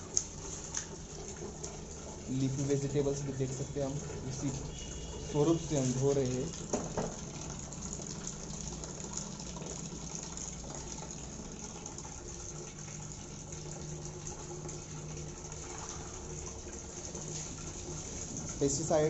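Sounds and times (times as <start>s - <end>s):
tap water splashing into basin: 0.0s - 18.6s
water spilling onto floor: 0.0s - 19.0s.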